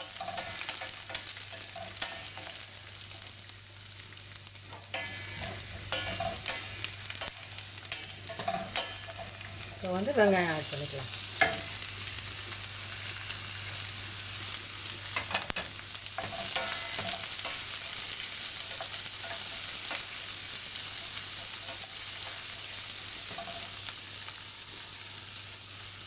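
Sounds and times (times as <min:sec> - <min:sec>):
onion sizzling in hot oil: 0:00.0 - 0:26.0.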